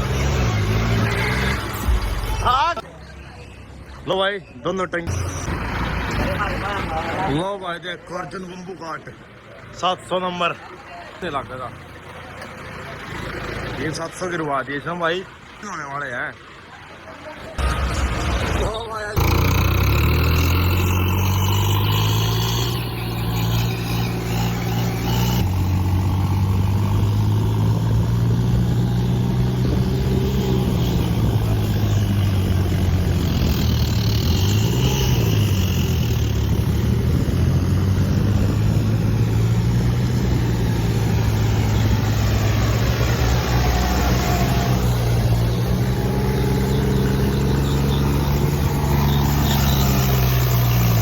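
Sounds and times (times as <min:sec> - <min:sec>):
heavy diesel engine running: 0:09.2 - 0:51.0.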